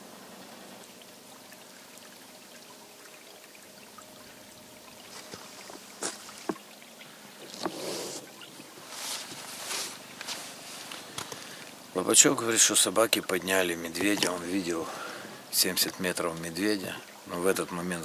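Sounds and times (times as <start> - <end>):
faint water trickling: 0.0 - 18.0.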